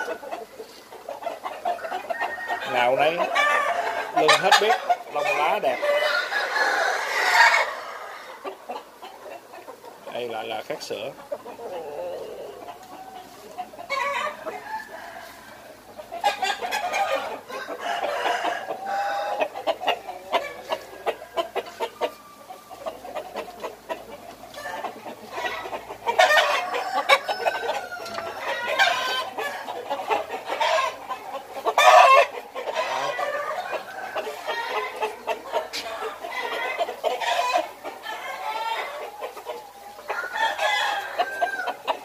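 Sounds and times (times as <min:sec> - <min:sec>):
roosters crowing: 0:00.0 - 0:09.5, 0:10.2 - 0:42.0
roosters clucking and calling: 0:00.0 - 0:42.0.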